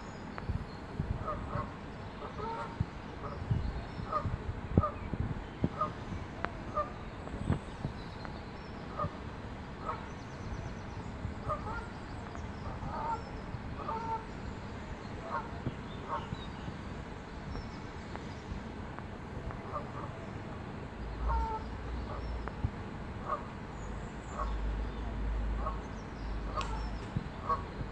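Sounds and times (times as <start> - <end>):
water birds calling: 0.0 - 27.9.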